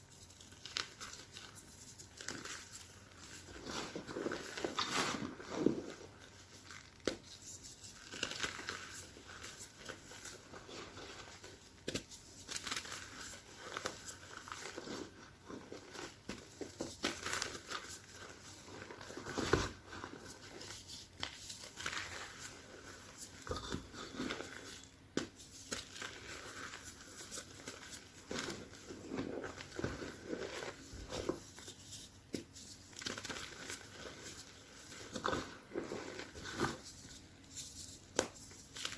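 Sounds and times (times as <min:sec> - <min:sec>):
chalk crunching and squeaking: 0:00.0 - 0:38.9.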